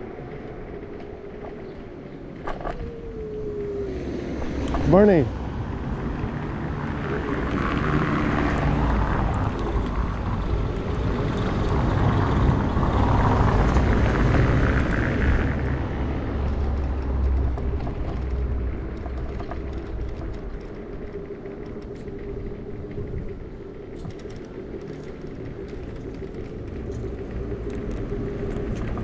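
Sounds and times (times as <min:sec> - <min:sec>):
scooter tyre rumble on pavement: 0:00.0 - 0:29.0
wind rushing over microphone: 0:00.0 - 0:29.0.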